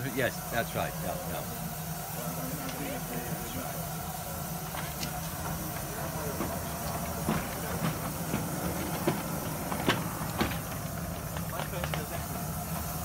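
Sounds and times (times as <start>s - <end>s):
steam locomotive hissing steam: 0.0s - 13.0s.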